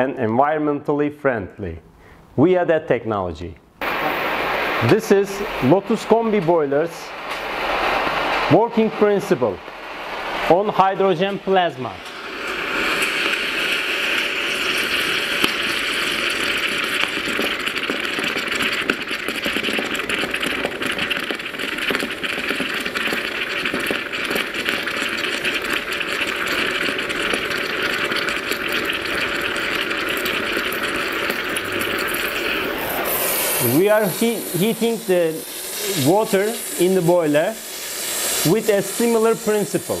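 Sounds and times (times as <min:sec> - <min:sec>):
electrical buzz with crackling: 0:03.8 - 0:40.0.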